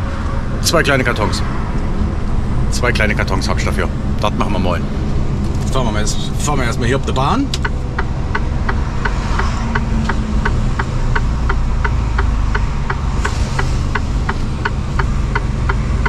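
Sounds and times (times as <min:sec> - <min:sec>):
truck diesel engine running: 0:00.0 - 0:16.0
steady ticking: 0:02.6 - 0:16.0.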